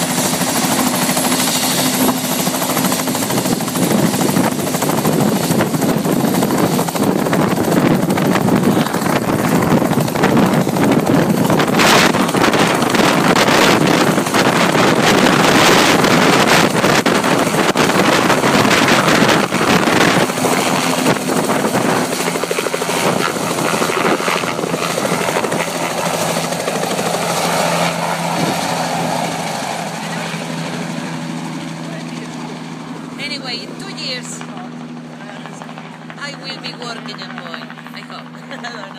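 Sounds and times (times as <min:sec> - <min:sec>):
helicopter rotor chop: 0:00.0 - 0:38.9
turbine whine: 0:00.0 - 0:38.9.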